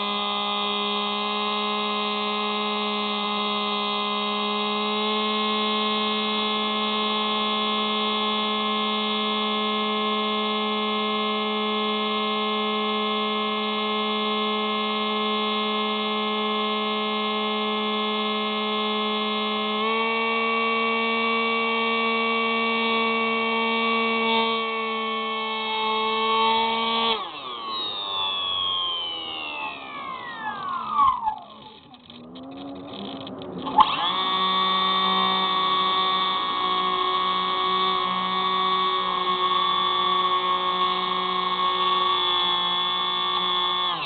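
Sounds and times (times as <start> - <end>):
rc plane motor whining: 0.0 - 44.0.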